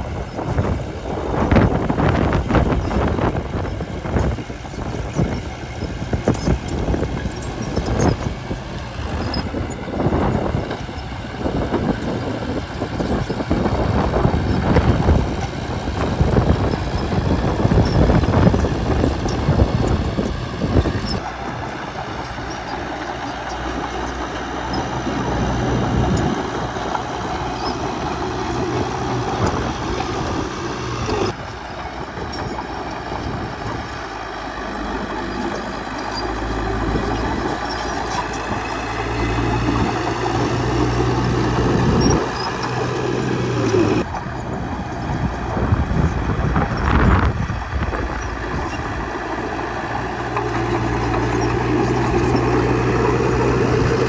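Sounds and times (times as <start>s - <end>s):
clanking of steel tracks: 0.0s - 54.0s
diesel engine running: 0.0s - 54.0s.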